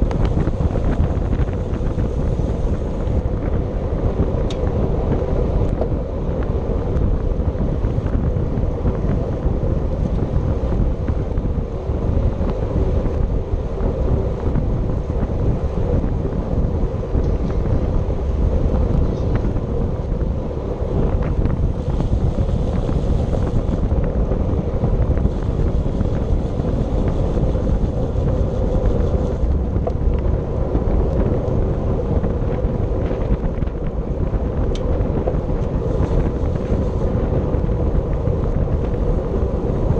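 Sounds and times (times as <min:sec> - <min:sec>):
low rumble: 0:00.0 - 0:39.9
wind noise on microphone: 0:00.0 - 0:39.9.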